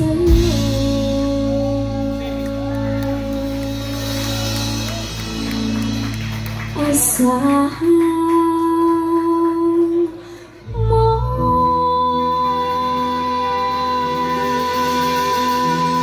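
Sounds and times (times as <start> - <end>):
live band playing: 0.0 - 16.0.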